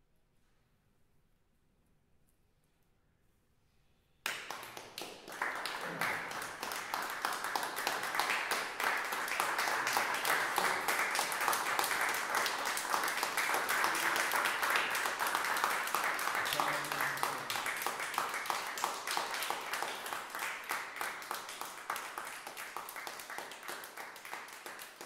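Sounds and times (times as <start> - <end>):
audience applauding: 4.3 - 25.0.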